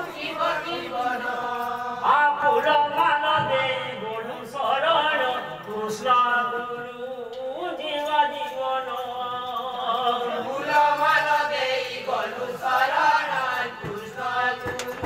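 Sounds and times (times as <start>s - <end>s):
men singing a chant: 0.0s - 15.0s.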